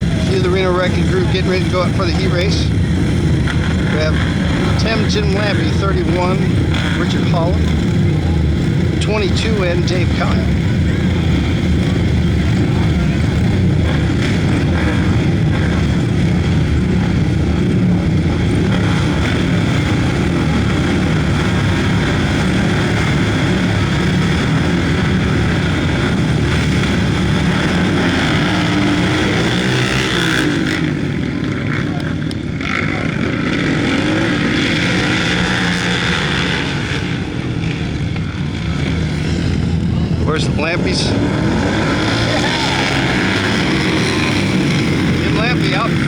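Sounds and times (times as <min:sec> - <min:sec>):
racing motorcycle engines revving: 0:00.0 - 0:46.0.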